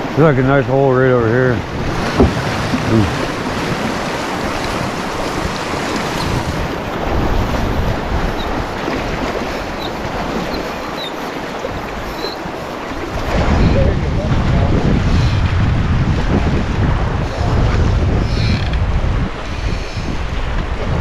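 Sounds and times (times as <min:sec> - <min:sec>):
river current rushing and splashing: 0:00.0 - 0:21.0
wind buffeting microphone: 0:00.0 - 0:21.0.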